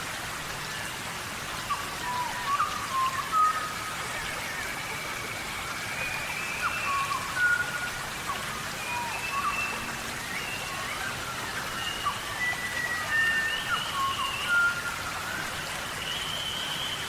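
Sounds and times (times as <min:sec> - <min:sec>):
steady rain falling: 0:00.0 - 0:17.0
high whistled calls: 0:01.7 - 0:17.0.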